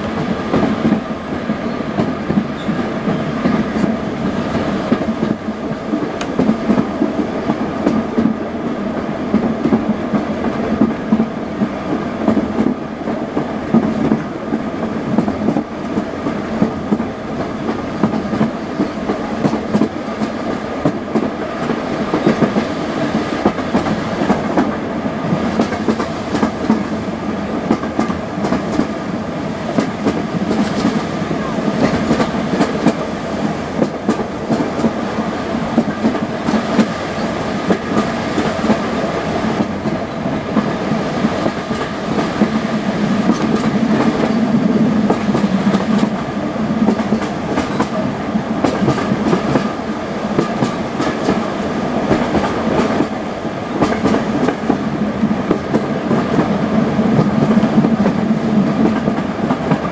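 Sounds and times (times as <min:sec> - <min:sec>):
clickety-clack of rail joints: 0:00.0 - 0:59.9
train wheels rumbling on track: 0:00.0 - 0:59.9.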